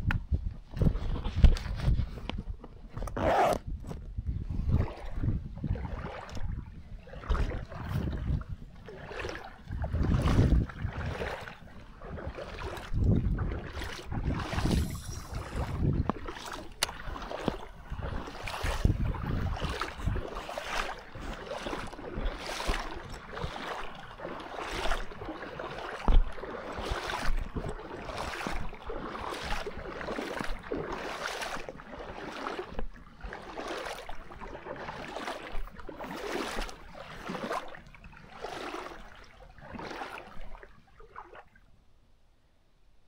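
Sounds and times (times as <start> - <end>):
splashing footsteps in water: 4.7 - 41.6.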